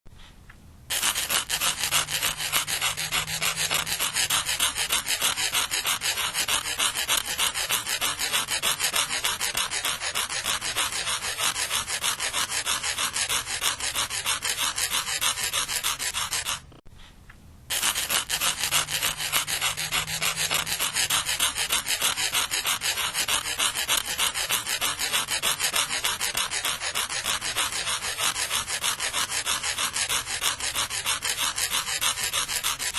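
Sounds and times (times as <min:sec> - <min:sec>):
sandpaper scratching: 0:00.9 - 0:16.8, 0:17.7 - 0:32.9.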